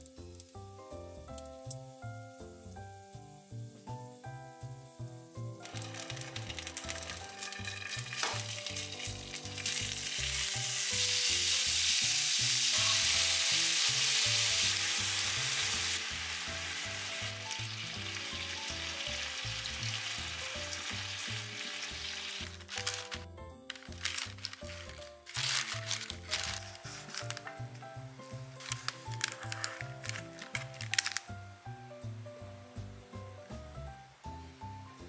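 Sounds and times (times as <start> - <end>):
beef sizzling in frying pan: 0.1 - 35.0.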